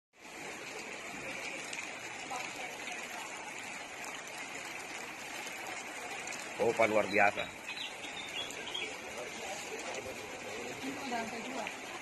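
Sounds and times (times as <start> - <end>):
floodwater rushing: 0.2 - 12.0.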